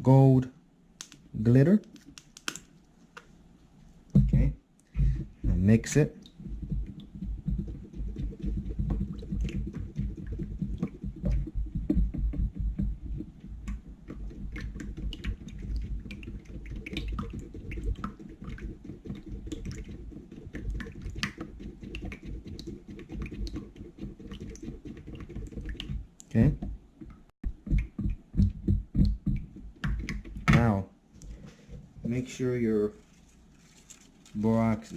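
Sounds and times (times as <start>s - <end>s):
stirring glue mixture in a bowl: 4.2s - 34.9s.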